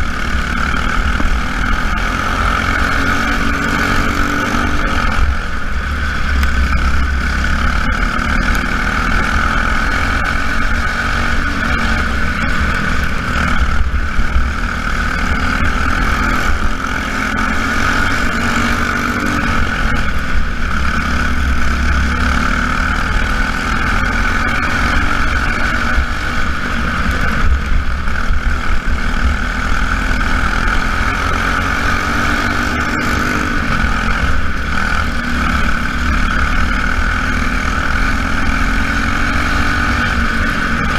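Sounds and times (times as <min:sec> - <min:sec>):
race car engines droning: 0:00.0 - 0:40.9.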